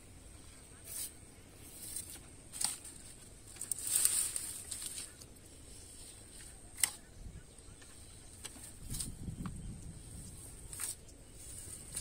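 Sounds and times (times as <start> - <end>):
rustling leafy undergrowth: 0.0 - 12.0.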